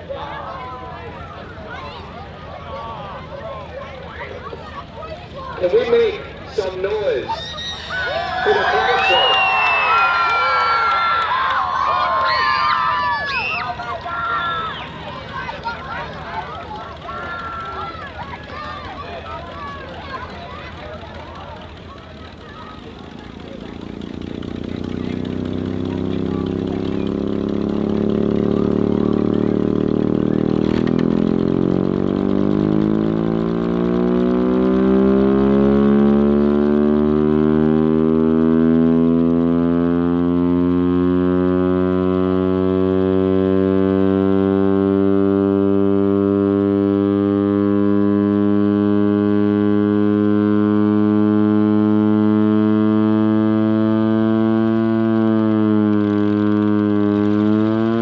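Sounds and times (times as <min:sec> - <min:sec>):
engine running: 0:00.0 - 0:58.0
air raid siren wailing: 0:07.4 - 0:58.0.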